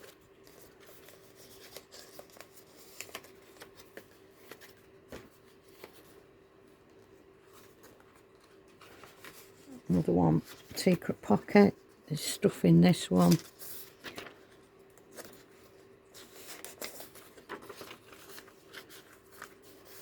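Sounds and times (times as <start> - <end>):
paper pages rustling and turning: 0.0 - 20.0.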